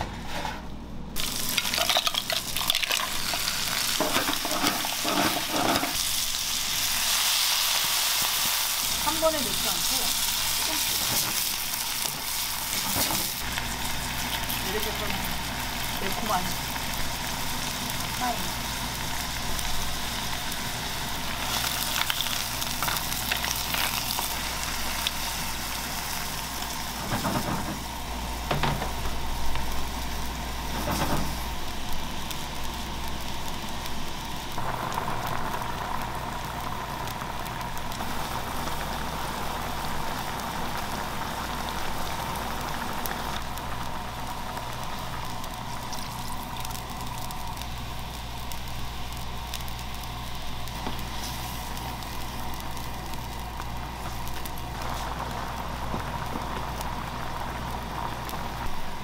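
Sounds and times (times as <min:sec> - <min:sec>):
broth boiling in a frying pan: 0:00.0 - 0:59.0.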